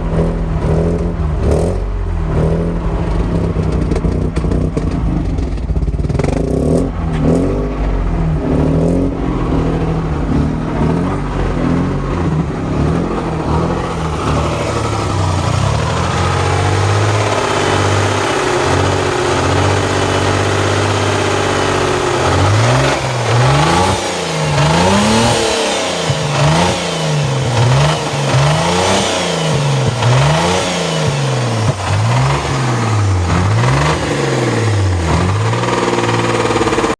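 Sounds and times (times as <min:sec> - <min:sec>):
engine rattling: 0:00.0 - 0:36.9
rotary engine revving: 0:00.0 - 0:36.9.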